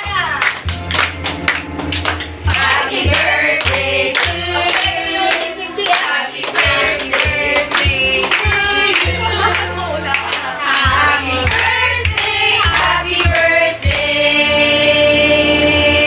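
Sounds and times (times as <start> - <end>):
hand clapping steady beat: 0.0 - 14.6
group singing: 2.5 - 16.0.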